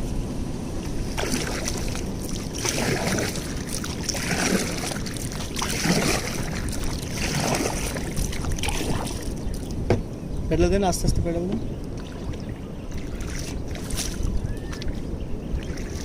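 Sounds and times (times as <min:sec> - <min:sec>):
low wind noise: 0:00.0 - 0:16.0
paddle wheel churning water: 0:00.8 - 0:09.9, 0:11.5 - 0:16.0.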